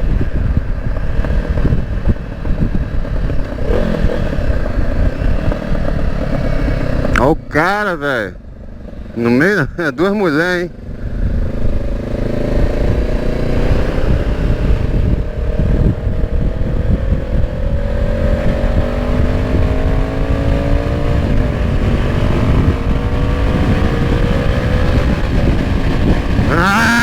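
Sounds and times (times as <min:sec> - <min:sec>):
wind rumble on microphone: 0:00.0 - 0:07.6, 0:08.4 - 0:27.0
motorcycle engine revving: 0:00.0 - 0:27.0.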